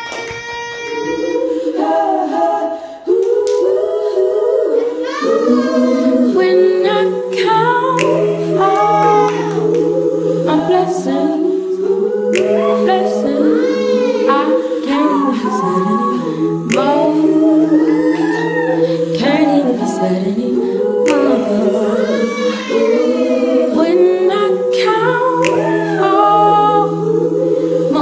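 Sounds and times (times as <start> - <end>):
voices singing held harmonies: 0.0 - 28.0.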